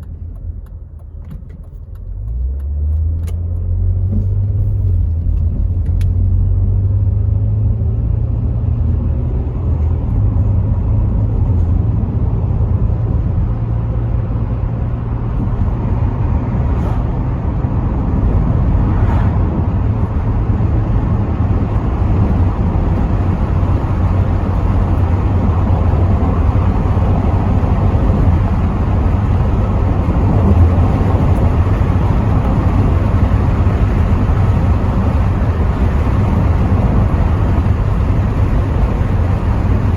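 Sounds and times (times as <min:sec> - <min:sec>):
car engine and road rumble: 0:00.0 - 0:39.9
wind and tyre noise: 0:00.0 - 0:39.9.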